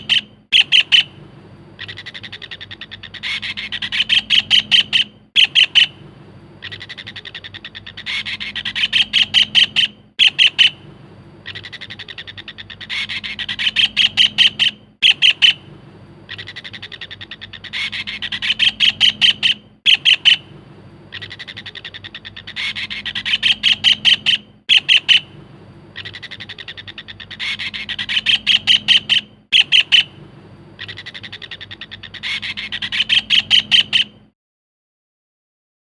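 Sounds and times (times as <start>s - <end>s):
kingfisher rattling call: 0.0s - 1.2s, 1.8s - 6.0s, 6.6s - 10.8s, 11.4s - 15.7s, 16.3s - 20.5s, 21.1s - 25.4s, 26.0s - 30.2s, 30.8s - 34.2s.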